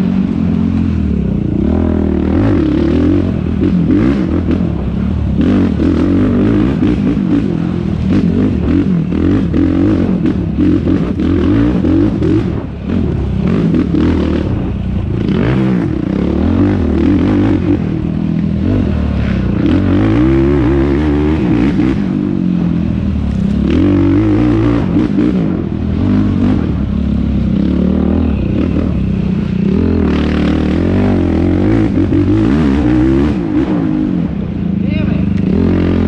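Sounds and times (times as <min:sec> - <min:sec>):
quad engine revving: 0:00.0 - 0:36.0.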